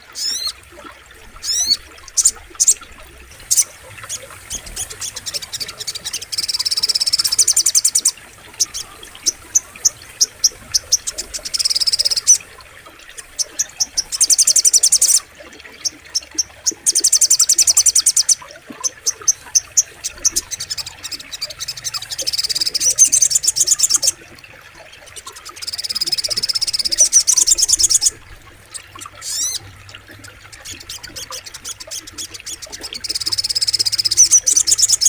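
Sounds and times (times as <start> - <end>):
bird trilling: 1.4 - 15.3, 16.2 - 24.2, 25.4 - 35.0.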